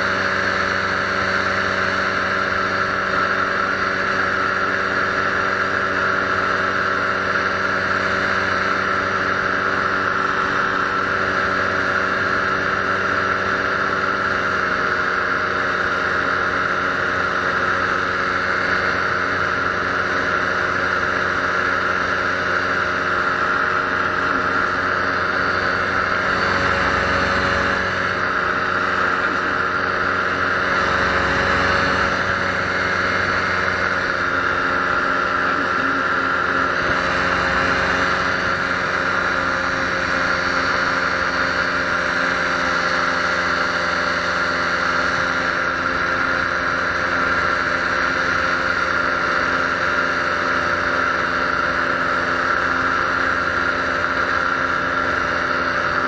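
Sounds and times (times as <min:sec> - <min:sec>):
paramotor engine droning: 0:00.0 - 0:56.0.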